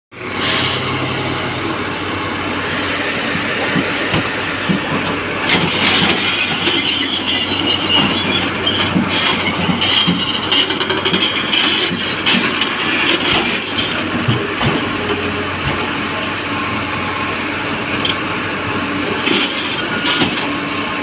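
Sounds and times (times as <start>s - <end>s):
excavator diesel engine: 0.1s - 21.0s.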